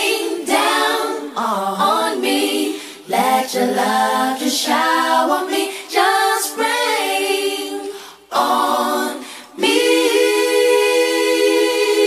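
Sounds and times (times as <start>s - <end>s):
women singing a cappella harmony: 0.0s - 12.0s.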